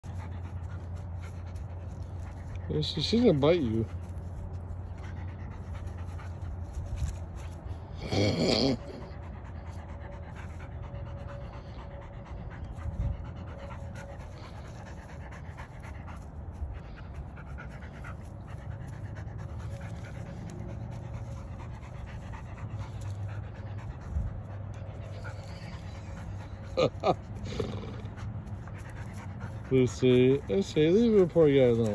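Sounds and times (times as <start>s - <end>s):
dog panting hard: 0.0s - 31.9s.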